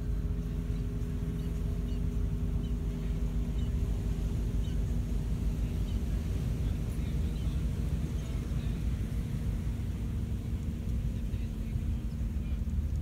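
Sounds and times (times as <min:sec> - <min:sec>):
faint hum: 0:00.0 - 0:13.0
low outdoor rumble: 0:00.0 - 0:13.0.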